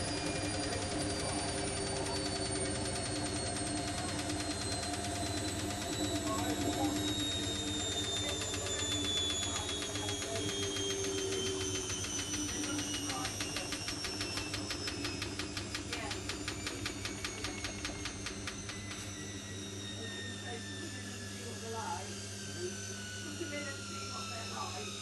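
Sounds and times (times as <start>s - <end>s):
washing machine motor whine: 0.0s - 25.0s.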